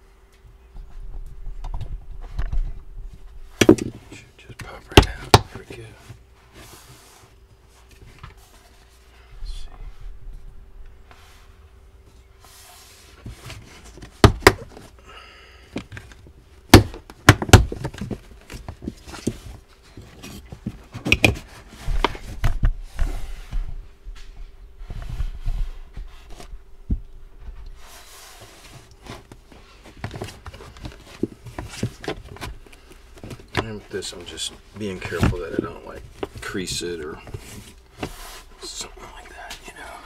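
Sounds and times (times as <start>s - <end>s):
panels rustling: 0.6s - 15.0s, 15.7s - 40.0s.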